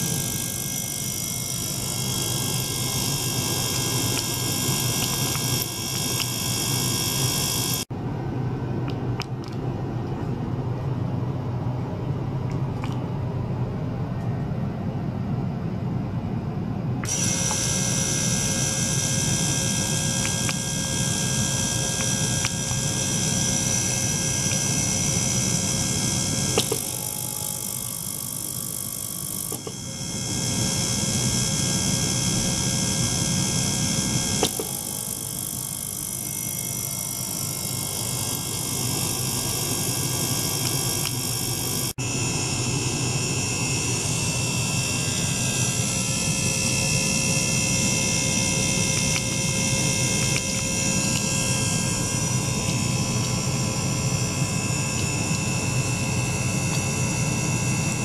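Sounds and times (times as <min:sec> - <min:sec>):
ultrasonic cleaner buzzing: 0:00.0 - 0:07.9, 0:17.0 - 0:58.0.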